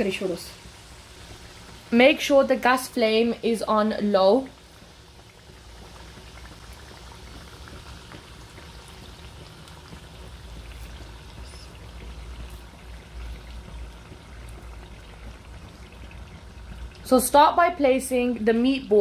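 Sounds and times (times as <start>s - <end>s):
low gas flame rumble: 0.0s - 19.0s
sauce simmering and bubbling: 0.0s - 19.0s.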